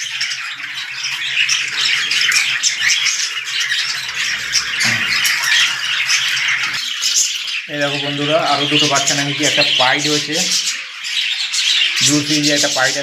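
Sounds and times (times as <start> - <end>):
caged birds chattering and squawking: 0.0 - 13.0.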